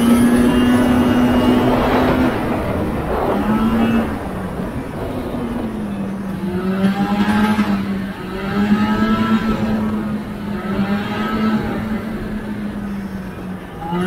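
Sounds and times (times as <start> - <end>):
two-stroke snowmobile engine: 0.0 - 14.0.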